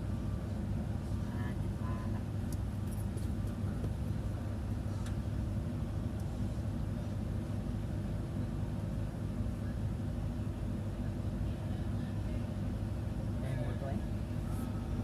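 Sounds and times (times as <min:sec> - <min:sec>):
low ship engine drone: 0:00.0 - 0:15.0.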